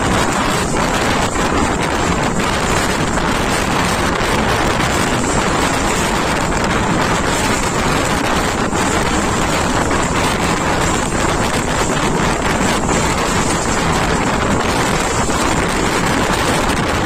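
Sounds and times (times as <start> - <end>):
train rumbling: 0.0 - 17.0
wind on microphone: 0.0 - 17.0.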